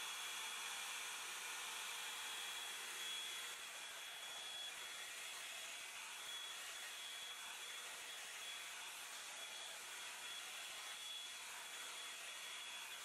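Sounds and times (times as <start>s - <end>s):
hot-air brush blowing air: 0.0s - 13.0s.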